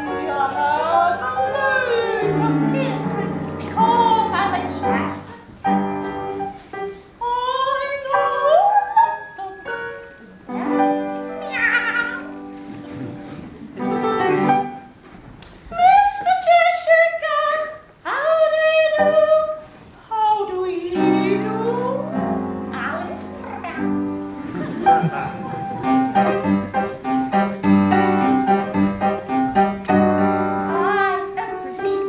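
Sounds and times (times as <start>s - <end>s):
piano: 0.0s - 32.0s.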